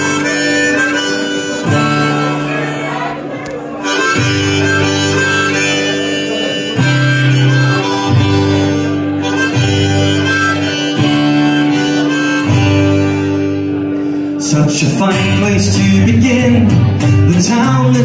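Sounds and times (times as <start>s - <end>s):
harmonica: 0.0s - 18.0s
strummed acoustic guitar: 0.0s - 18.0s.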